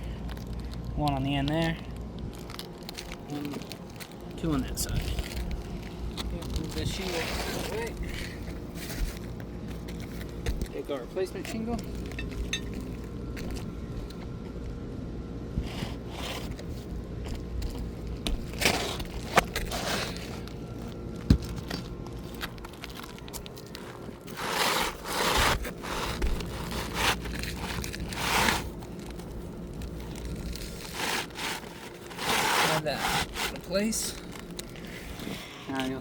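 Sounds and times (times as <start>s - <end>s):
shingle scraping and rustling: 0.3s - 14.4s, 15.6s - 36.0s.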